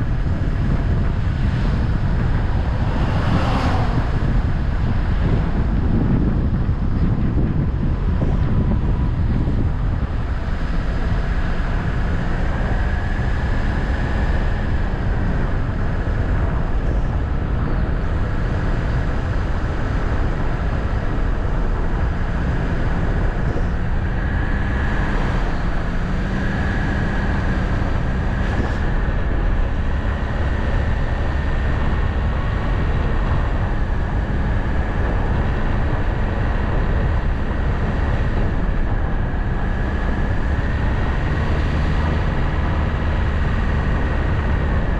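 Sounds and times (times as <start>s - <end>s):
vehicle engine and road noise: 0.0s - 44.9s.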